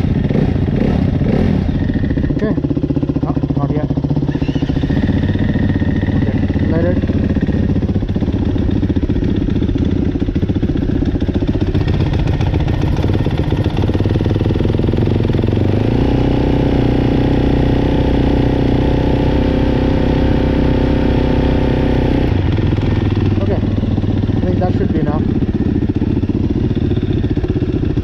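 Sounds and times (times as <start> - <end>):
dirt bike engines idling: 0.0 - 28.0.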